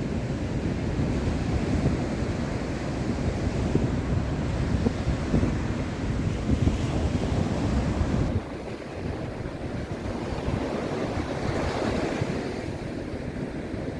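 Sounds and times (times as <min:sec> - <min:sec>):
wind buffeting microphone: 0:00.0 - 0:13.9
surf breaking on beach: 0:00.1 - 0:13.9.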